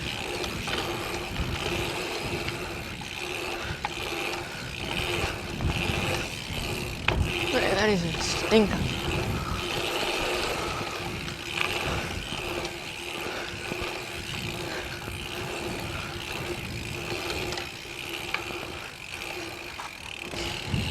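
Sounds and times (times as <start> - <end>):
wind noise: 0.0 - 17.9, 20.2 - 20.9
bicycle freehub ratcheting: 0.0 - 20.9
trail rumble: 0.0 - 20.9.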